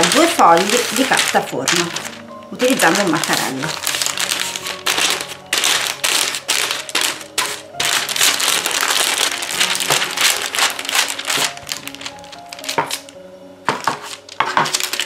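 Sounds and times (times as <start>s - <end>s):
baking paper crinkling: 0.0s - 15.0s.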